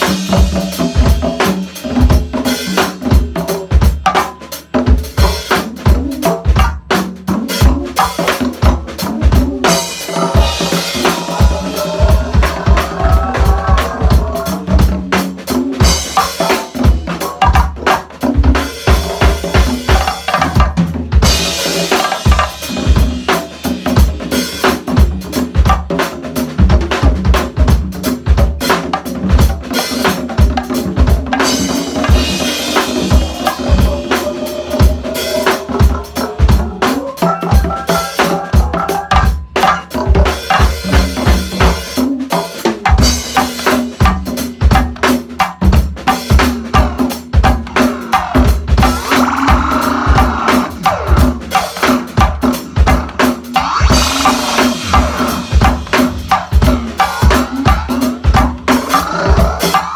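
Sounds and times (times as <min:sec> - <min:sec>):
congas played fast: 0:00.0 - 0:59.9
drum kit: 0:00.0 - 0:59.9.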